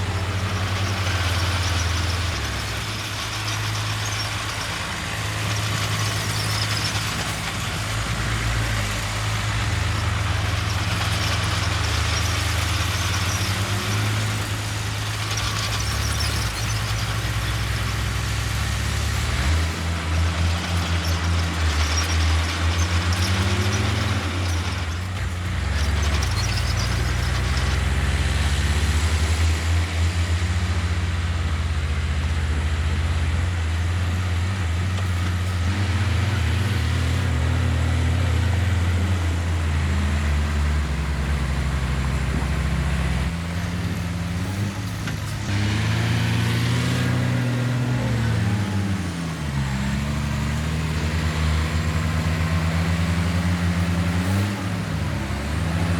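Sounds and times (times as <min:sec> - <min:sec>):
heavy diesel engine revving: 0:00.0 - 0:55.9.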